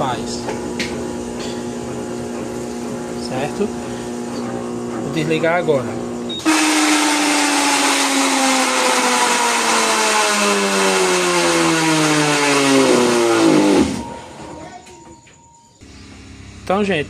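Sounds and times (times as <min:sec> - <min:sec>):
washing machine braking whine: 0:00.0 - 0:17.0.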